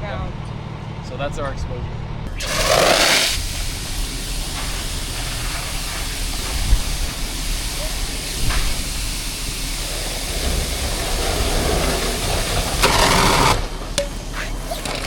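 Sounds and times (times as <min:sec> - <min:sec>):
fire engine running: 0:00.0 - 0:15.0
broad hiss: 0:02.3 - 0:14.7
sharp hiss: 0:02.3 - 0:14.9.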